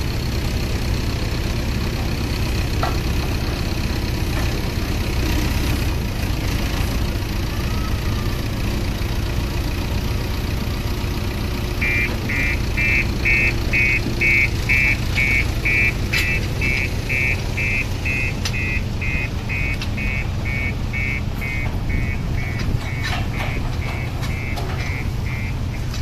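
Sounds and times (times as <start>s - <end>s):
low rumble of running machinery: 0.0s - 26.0s.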